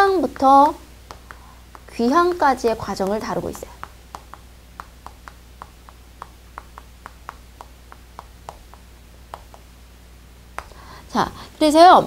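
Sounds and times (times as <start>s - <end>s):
chalk tapping on chalkboard: 0.1s - 9.7s, 10.5s - 10.8s.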